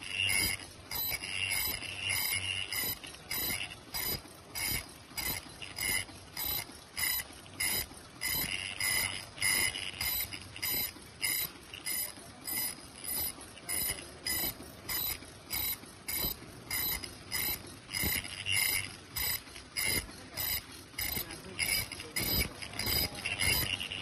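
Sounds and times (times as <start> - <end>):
high-pitched ringing tone: 0.0 - 24.0
machine mechanical clatter: 0.0 - 24.0.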